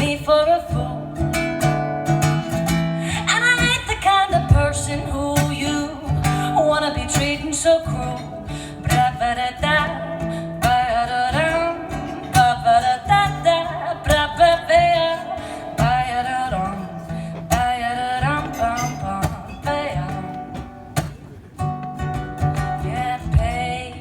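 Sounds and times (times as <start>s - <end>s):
ukulele strummed and plucked: 0.0s - 24.0s.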